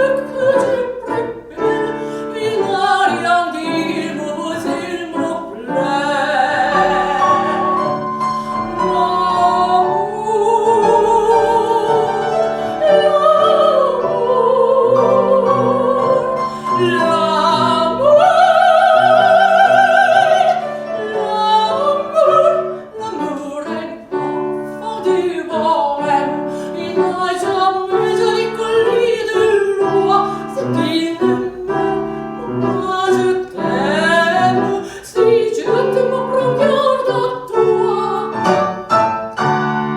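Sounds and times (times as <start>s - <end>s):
piano accompaniment: 0.0s - 39.9s
soprano singing: 0.0s - 39.9s.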